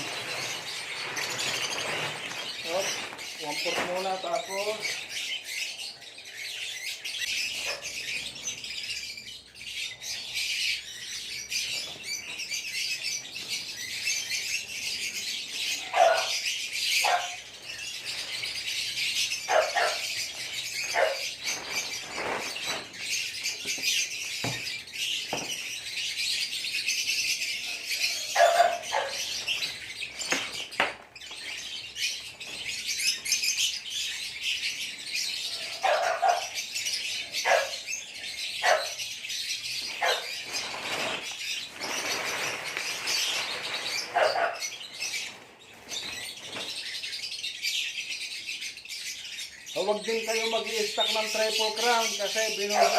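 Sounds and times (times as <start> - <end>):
lovebirds chattering and chirping: 0.0 - 52.9.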